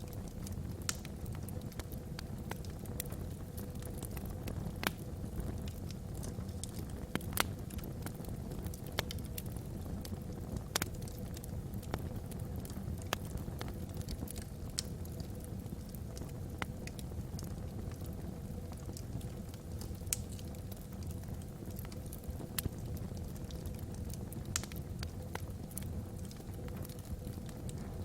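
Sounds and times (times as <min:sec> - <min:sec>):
fire low rumble: 0:00.0 - 0:28.0
wood crackling and popping: 0:00.0 - 0:28.0.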